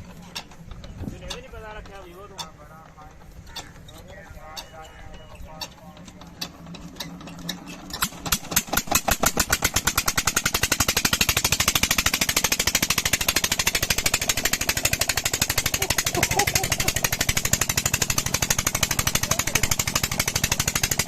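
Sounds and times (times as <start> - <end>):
diesel engine starting: 0.0 - 21.0.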